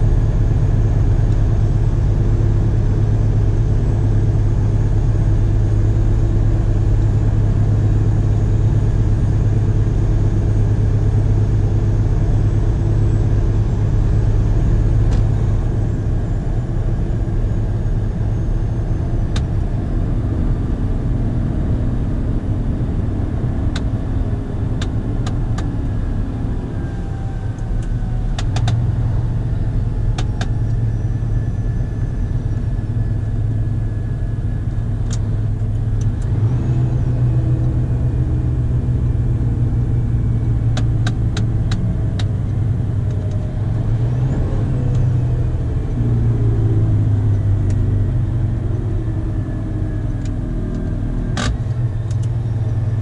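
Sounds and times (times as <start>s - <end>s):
truck diesel engine droning: 0.0s - 53.0s.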